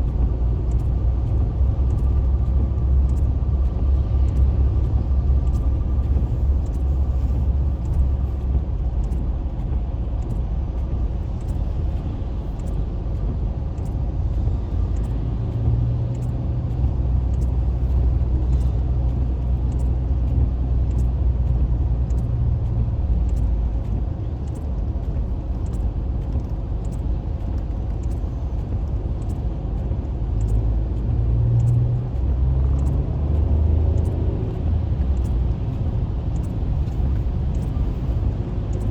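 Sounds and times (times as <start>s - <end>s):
car driving in rain: 0.0s - 38.9s.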